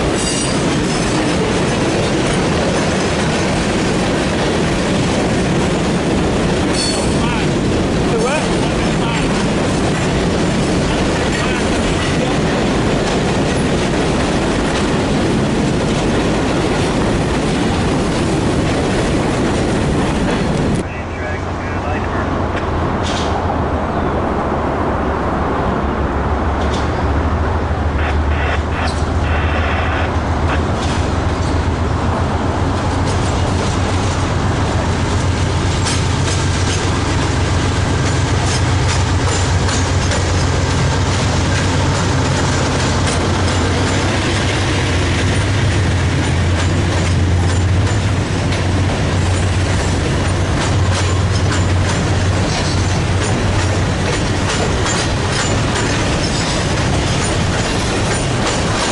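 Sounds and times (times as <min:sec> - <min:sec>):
train wheels clacking on rails: 0:00.0 - 0:20.8, 0:22.5 - 0:23.6, 0:30.4 - 0:58.9
freight train rumbling past: 0:00.0 - 0:58.9.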